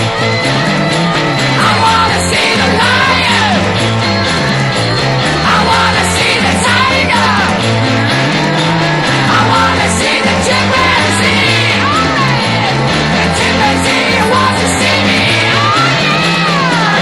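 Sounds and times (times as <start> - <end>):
rock band playing: 0.0 - 17.0
stepping bass line: 0.0 - 17.0.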